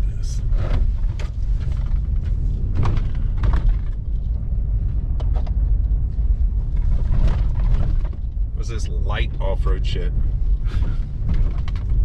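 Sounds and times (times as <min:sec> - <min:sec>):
car cabin rumble: 0:00.0 - 0:12.0
clunks and rattles from car body: 0:00.4 - 0:08.5, 0:10.4 - 0:12.0.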